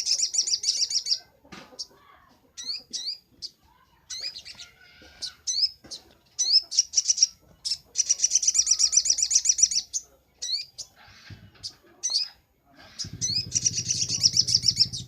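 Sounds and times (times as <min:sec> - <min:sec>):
sunbird chirping: 0:00.0 - 0:01.2, 0:02.6 - 0:11.0, 0:11.6 - 0:15.0.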